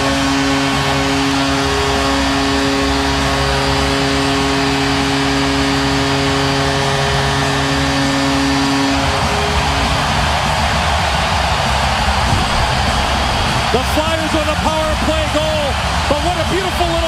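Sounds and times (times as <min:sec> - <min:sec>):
crowd cheering: 0:00.0 - 0:17.0
goal horn: 0:00.0 - 0:17.0.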